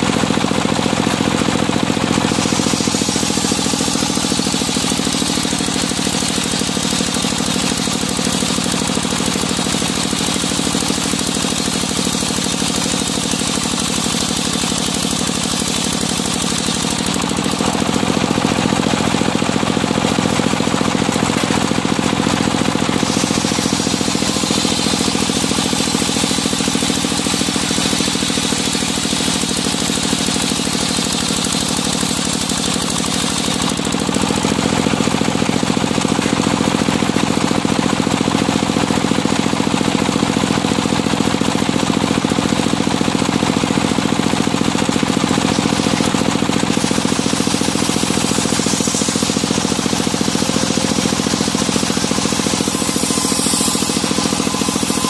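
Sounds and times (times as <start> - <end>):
circular saw blade cutting wood: 0.0 - 41.1, 43.7 - 55.0
engine running with pulsing beat: 0.0 - 55.0.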